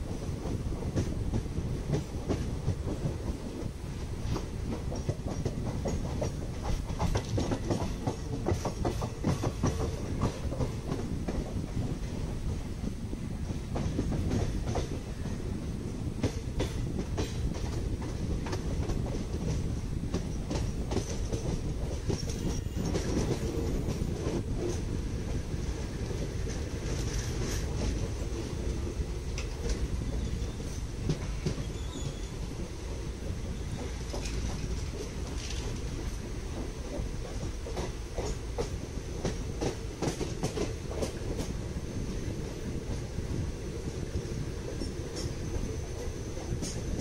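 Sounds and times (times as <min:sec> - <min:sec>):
passing train alongside: 0:00.0 - 0:47.0
train rumble: 0:00.0 - 0:47.0
wheels clickety-clack over rail joints: 0:00.0 - 0:47.0.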